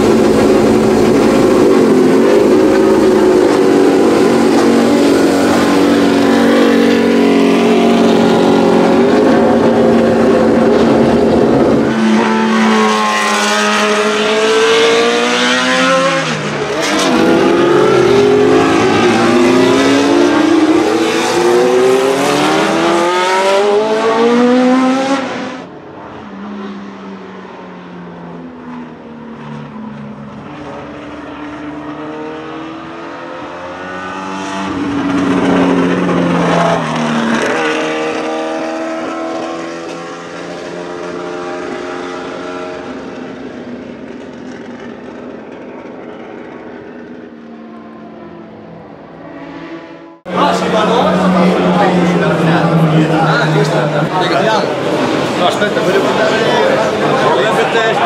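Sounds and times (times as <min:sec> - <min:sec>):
distant racing car passing: 0:00.0 - 0:58.0
racing car engine accelerating: 0:00.0 - 0:58.0.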